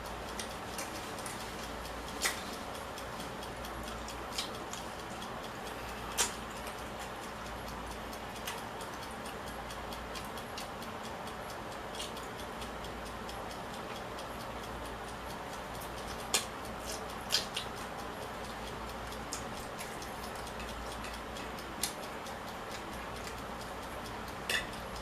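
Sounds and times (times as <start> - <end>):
faint regular ticking: 0.0 - 25.0
sharp eating clicks: 0.1 - 25.0.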